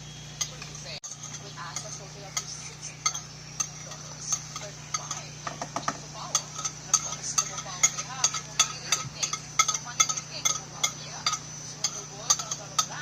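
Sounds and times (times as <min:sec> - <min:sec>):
metal utensil clinking against dish: 0:00.4 - 0:13.0.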